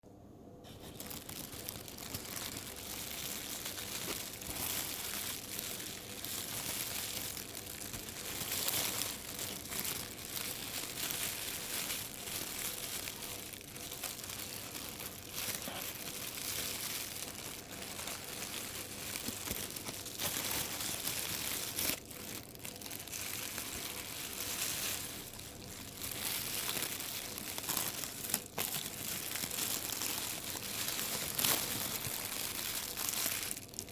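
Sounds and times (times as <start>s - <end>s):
plastic bag crinkling: 0.7s - 33.9s.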